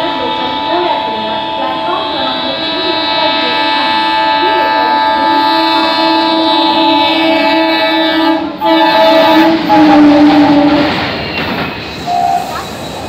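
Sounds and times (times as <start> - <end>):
train horn blast: 0.0 - 11.0, 12.1 - 12.6
passing train rushing: 0.0 - 13.0.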